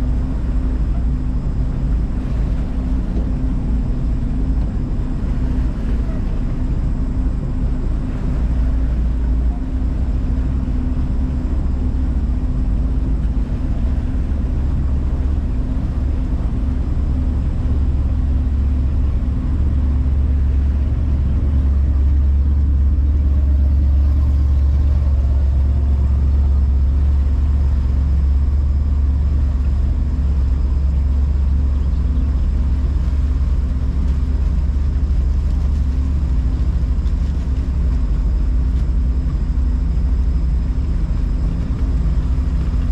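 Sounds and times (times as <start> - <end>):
motorboat engine running: 0.0 - 42.9.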